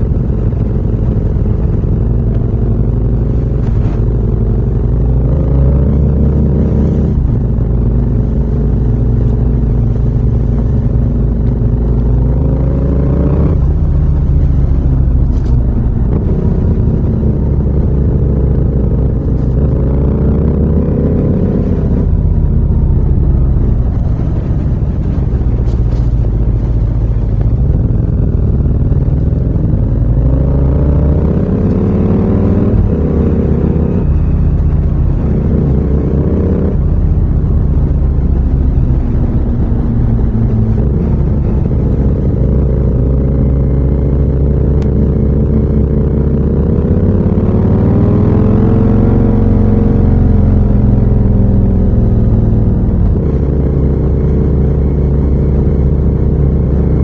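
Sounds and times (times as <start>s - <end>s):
motorcycle engine deep rumble: 0.0s - 57.0s.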